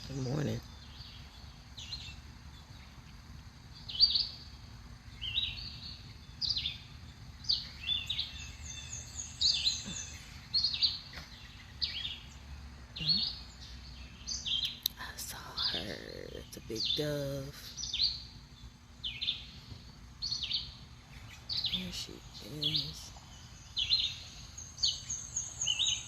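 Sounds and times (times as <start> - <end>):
songbirds whistling: 0.0 - 26.0.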